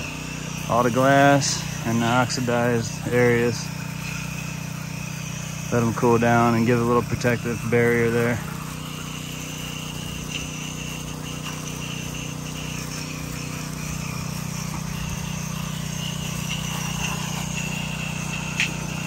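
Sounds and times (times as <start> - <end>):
pressure washer humming: 0.0 - 19.0
water spraying on door and glass: 0.0 - 19.0.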